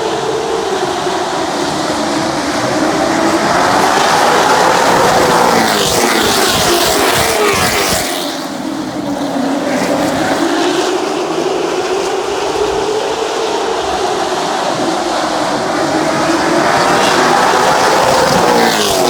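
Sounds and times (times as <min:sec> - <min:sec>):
engine drone of the field: 0:00.0 - 0:19.0
race car engines passing: 0:00.0 - 0:19.0.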